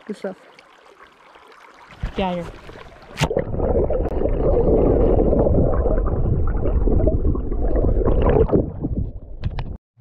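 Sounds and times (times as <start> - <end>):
muffled underwater stream gurgle: 0.0 - 9.7.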